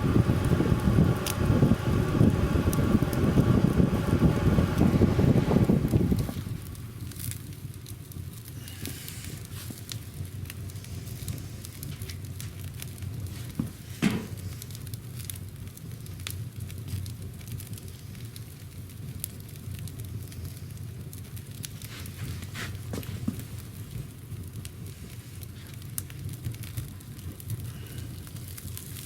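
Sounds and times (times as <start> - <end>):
fire crackling and sizzling: 0.0 - 29.0
fire rumbling in a stove: 0.0 - 29.0.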